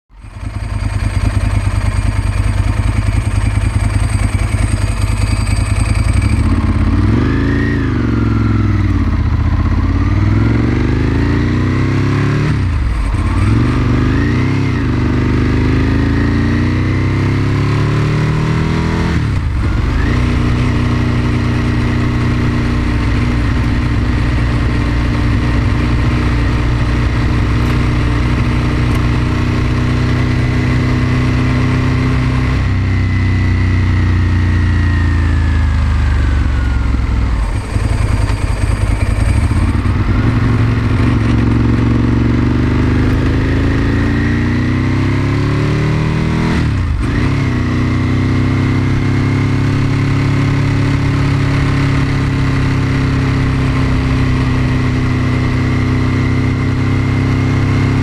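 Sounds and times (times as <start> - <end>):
motorcycle engine: 0.1 - 58.0.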